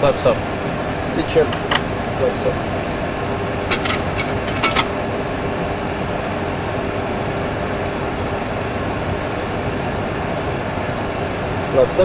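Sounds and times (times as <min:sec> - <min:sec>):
rushing cockpit noise with low hum: 0:00.0 - 0:12.0.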